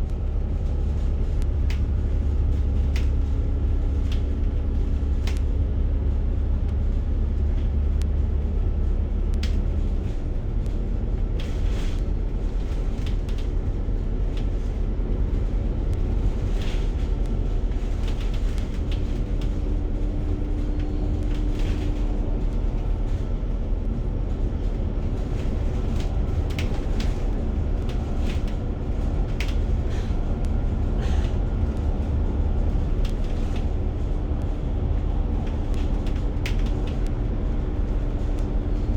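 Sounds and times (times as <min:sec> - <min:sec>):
vehicle rumble from inside: 0:00.0 - 0:38.9.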